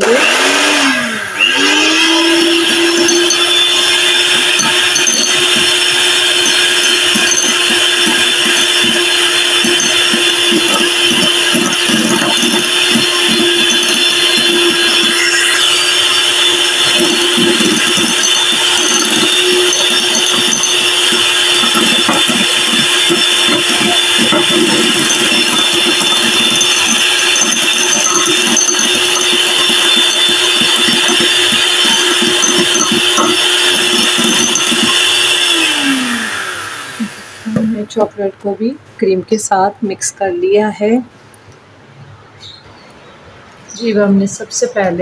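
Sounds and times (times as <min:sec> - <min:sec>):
electric hand mixer running: 0:00.0 - 0:37.9.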